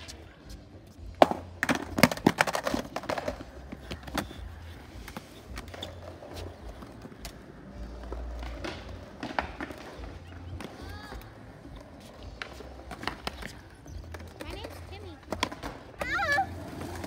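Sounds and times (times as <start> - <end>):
skateboard wheels rolling: 0.0 - 17.0
skateboard clacks and knocks: 1.2 - 17.0.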